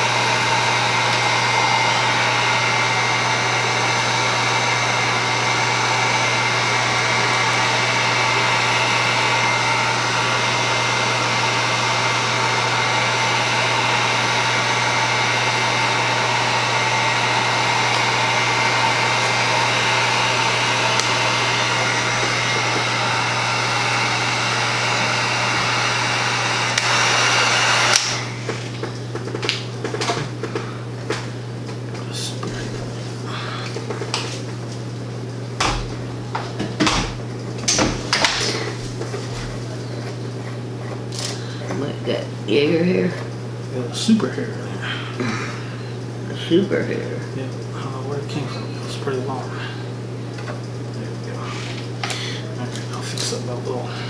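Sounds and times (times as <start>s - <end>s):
heat gun fan whirring: 0.0s - 54.0s.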